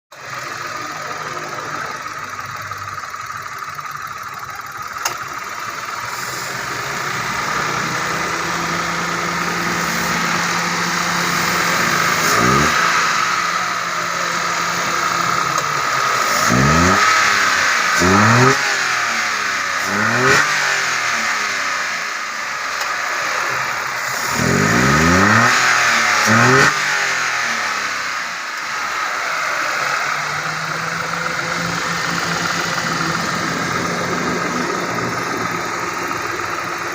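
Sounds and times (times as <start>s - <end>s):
car engine idling and revving: 0.1s - 36.9s.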